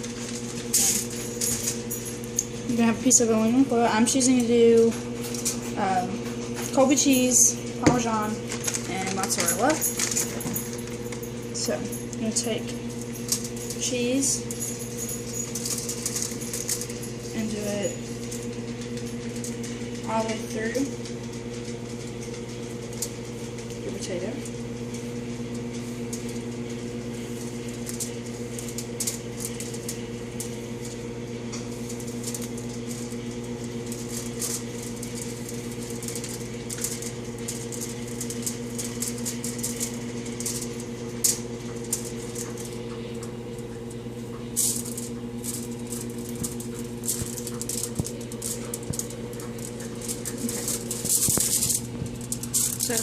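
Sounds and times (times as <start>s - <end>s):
aluminum foil crinkling: 0.0s - 53.0s
low electrical hum: 0.0s - 53.0s.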